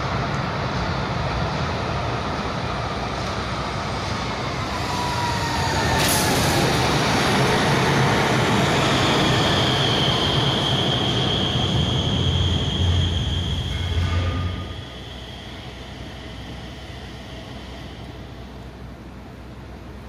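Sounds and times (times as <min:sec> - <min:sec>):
steady high whine: 0:00.0 - 0:20.0
tram wheels rumbling on rails: 0:00.0 - 0:20.0.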